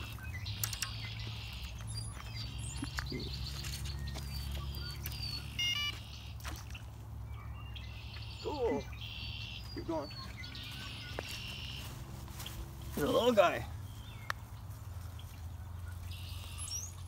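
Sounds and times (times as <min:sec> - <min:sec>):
birds chirping and whistling: 0:00.0 - 0:17.0.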